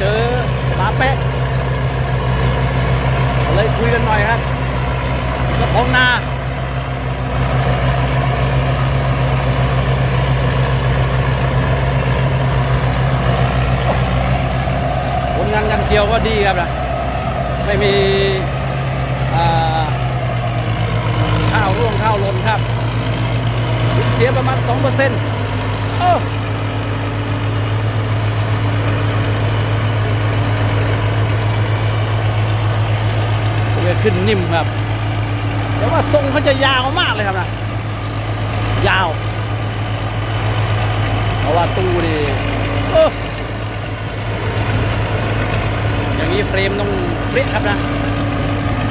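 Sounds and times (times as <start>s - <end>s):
combine harvester engine drone: 0.0s - 48.9s
high whine: 0.0s - 48.9s.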